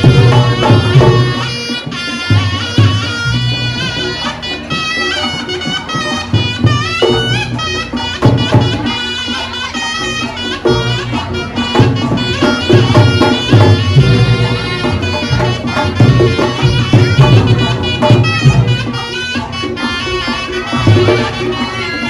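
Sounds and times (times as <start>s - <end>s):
reedy shawm melody: 0.0s - 22.0s
steady drumming: 0.0s - 22.0s.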